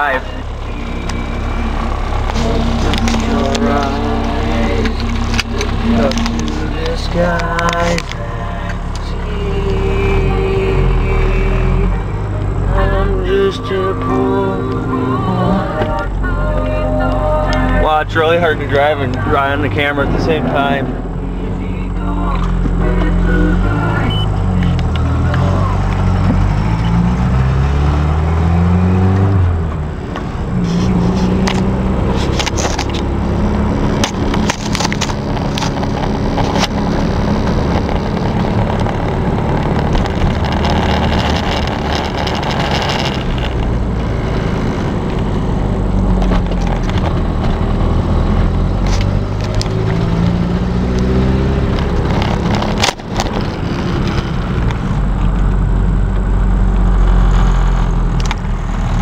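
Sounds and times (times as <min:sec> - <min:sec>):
truck engine and exhaust: 0:00.0 - 0:59.0.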